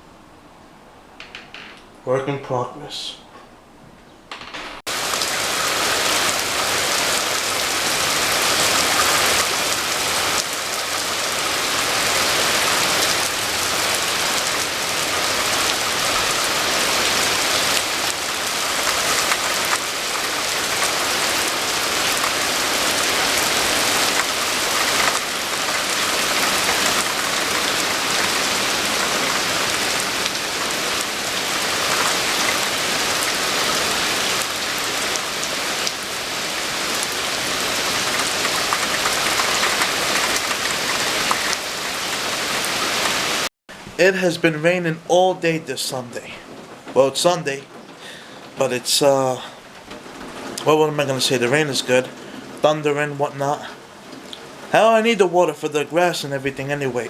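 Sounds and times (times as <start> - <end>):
heavy rainfall: 4.8 - 57.0.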